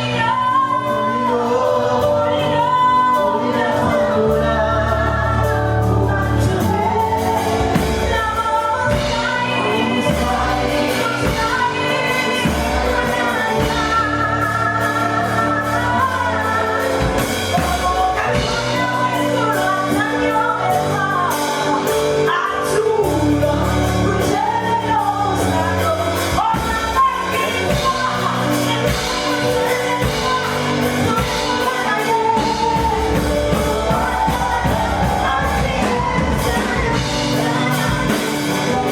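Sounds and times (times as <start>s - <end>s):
band playing steady beat: 0.0s - 38.9s
voices singing: 0.0s - 38.9s.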